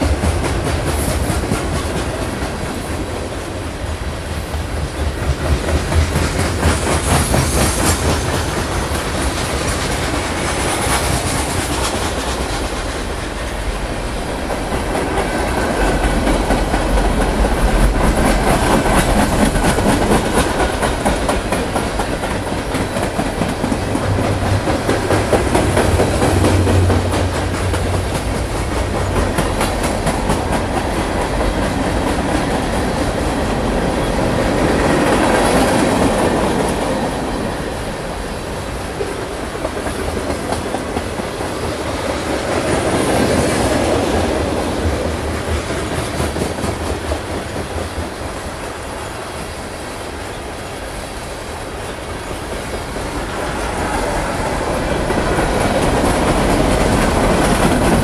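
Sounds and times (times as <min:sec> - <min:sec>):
freight train wheels rumbling: 0:00.0 - 0:58.0
wheels clicking over rail joints: 0:00.0 - 0:58.0.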